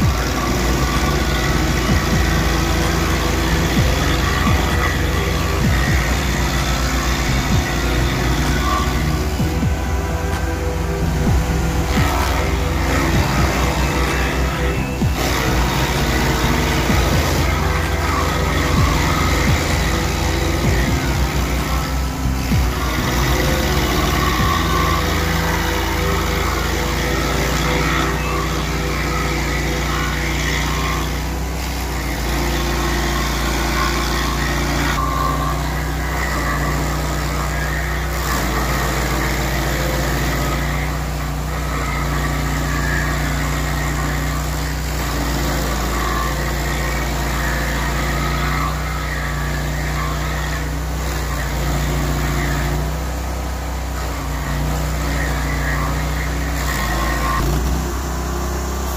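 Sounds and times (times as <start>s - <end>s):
cutter wheel grinding wood: 0.0s - 58.9s
stump cutter engine running: 0.0s - 58.9s.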